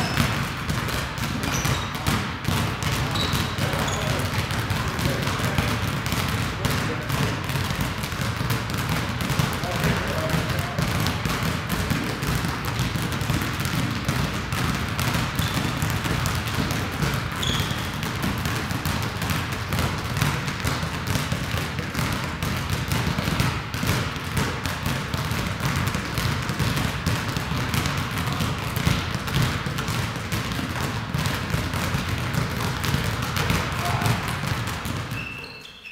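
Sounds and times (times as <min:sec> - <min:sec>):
basketballs dribbling on court: 0:00.0 - 0:35.9.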